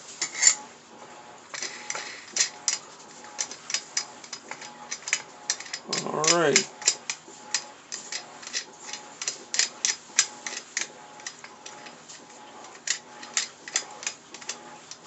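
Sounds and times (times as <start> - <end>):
metal parts clicking and tapping: 1.5 - 15.0.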